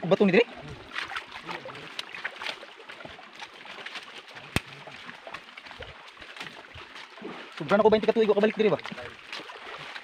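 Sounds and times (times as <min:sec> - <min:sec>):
light water splashing: 0:00.0 - 0:10.0
footsteps on wet stones: 0:00.1 - 0:10.0.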